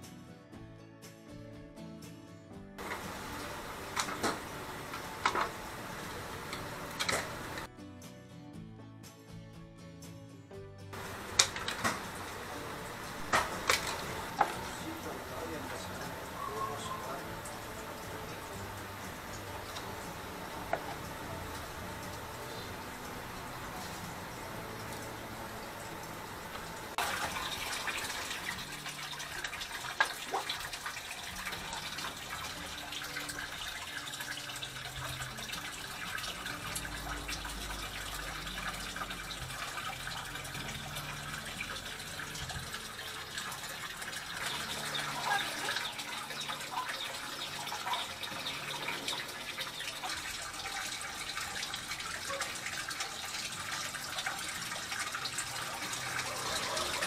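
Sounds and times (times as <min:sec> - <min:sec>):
water dripping: 0:02.8 - 0:07.7, 0:11.0 - 0:57.0
water running and splashing: 0:02.8 - 0:07.7, 0:11.0 - 0:57.0.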